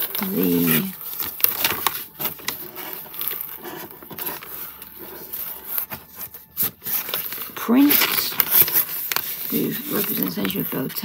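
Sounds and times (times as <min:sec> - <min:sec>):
items clicking and knocking: 0:00.0 - 0:11.0
rustling of packing: 0:00.0 - 0:11.0.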